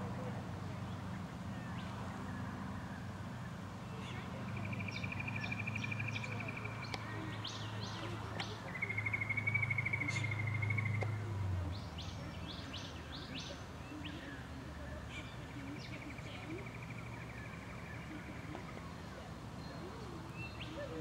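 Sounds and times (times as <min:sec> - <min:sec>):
birds chirping and trilling: 0:00.8 - 0:21.0.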